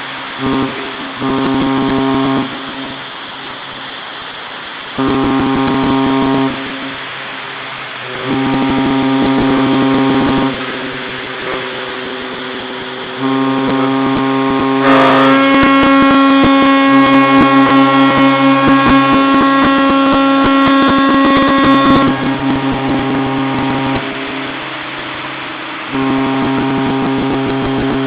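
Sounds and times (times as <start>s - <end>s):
ship horns blasting: 0.3s - 3.1s, 5.0s - 28.0s.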